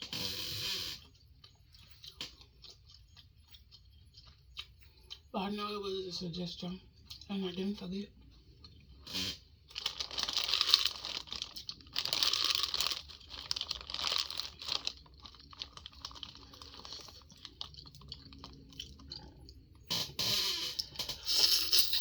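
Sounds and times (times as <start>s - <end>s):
clicking and chewing: 0.0s - 5.3s, 6.9s - 22.0s
seafood crackling and crunching: 0.0s - 5.4s, 7.0s - 22.0s.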